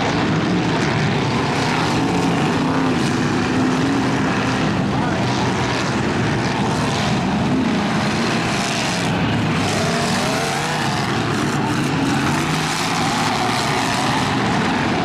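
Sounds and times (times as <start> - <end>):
truck engines racing: 0.0 - 15.0.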